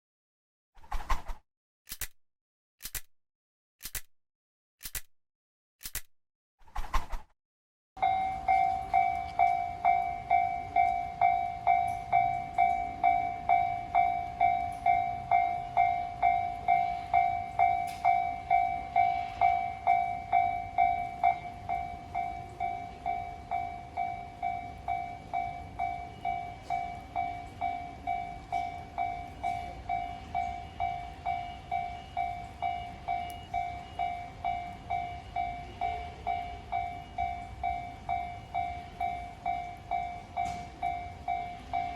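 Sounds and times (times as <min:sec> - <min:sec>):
level crossing bell dinging: 0:08.0 - 0:41.9.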